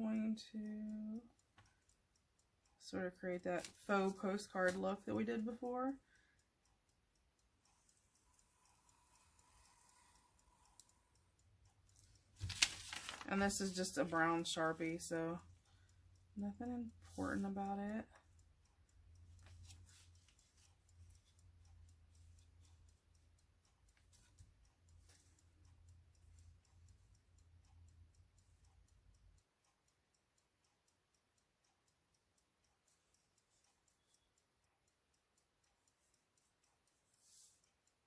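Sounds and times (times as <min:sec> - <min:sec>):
faint ticking: 0:00.0 - 0:38.0.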